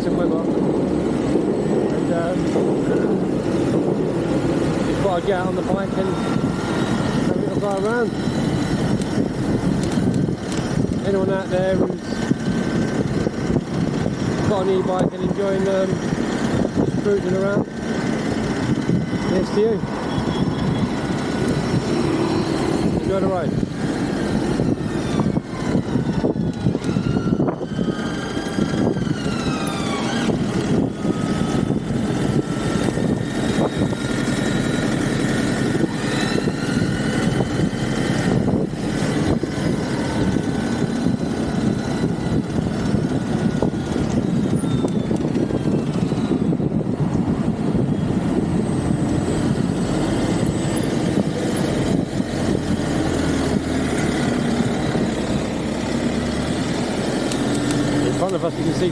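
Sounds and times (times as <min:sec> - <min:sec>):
wind and road rumble: 0:00.0 - 0:58.9
electric motor whine: 0:00.1 - 0:58.9.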